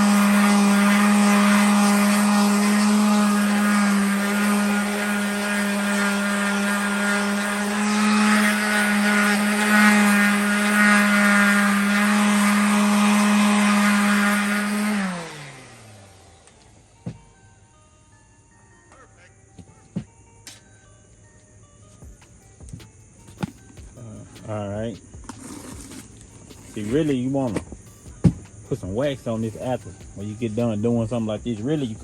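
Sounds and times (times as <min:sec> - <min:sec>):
power tool motor running: 0:00.0 - 0:17.2, 0:22.0 - 0:32.0.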